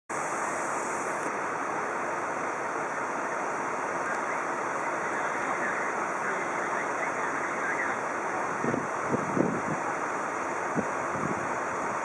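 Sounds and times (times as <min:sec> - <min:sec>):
floodwater rushing: 0:01.4 - 0:12.0.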